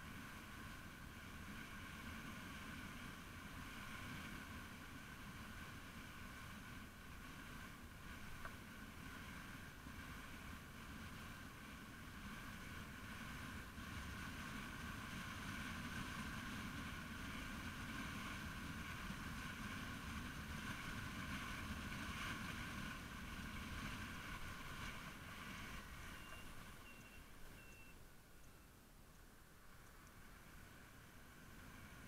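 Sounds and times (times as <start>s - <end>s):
motorbike engine drone: 0.0s - 28.9s.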